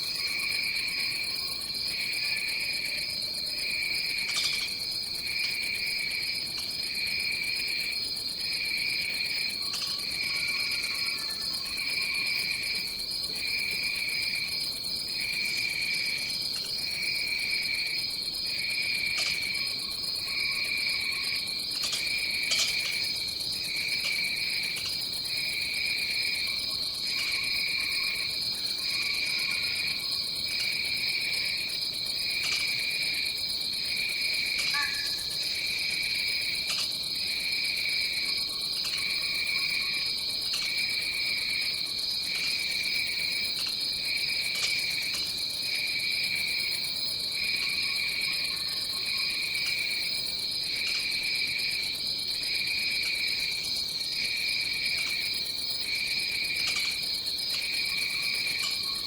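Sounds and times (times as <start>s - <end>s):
insect trill: 0.0s - 59.0s
insects buzzing: 0.0s - 59.0s.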